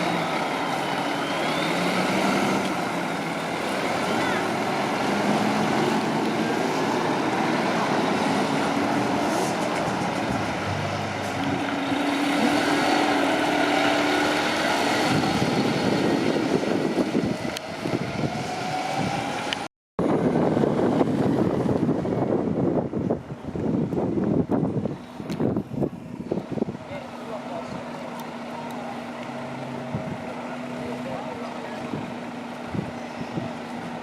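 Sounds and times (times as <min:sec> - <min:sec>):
fire trucks driving past: 0:00.0 - 0:34.0.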